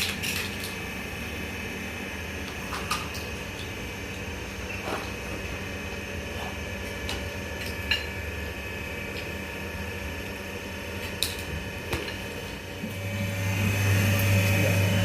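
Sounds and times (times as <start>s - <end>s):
motor hum: 0.0s - 15.0s
steady low hum: 0.0s - 15.0s.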